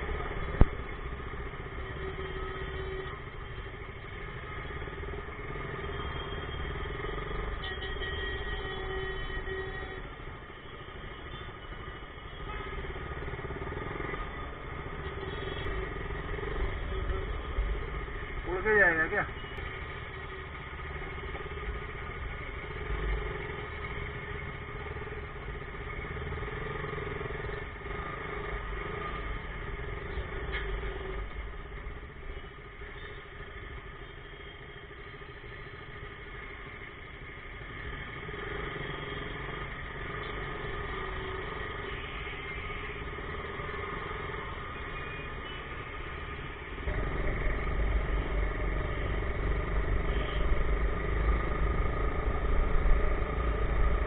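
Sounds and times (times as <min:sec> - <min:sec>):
city traffic: 0:00.0 - 0:54.0.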